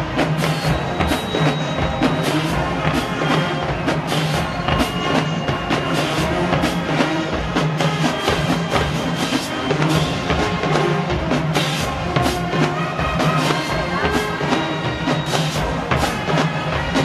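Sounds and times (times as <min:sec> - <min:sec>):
brass band playing: 0:00.0 - 0:17.0
drumline bass and snare drums: 0:00.0 - 0:17.0.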